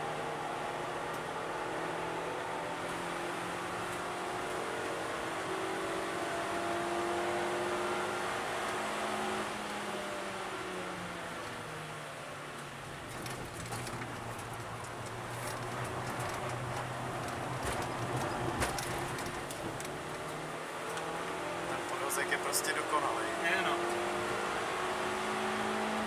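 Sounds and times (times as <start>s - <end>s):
car engine under load: 0.0s - 26.0s
wind and tyre noise: 0.0s - 26.0s.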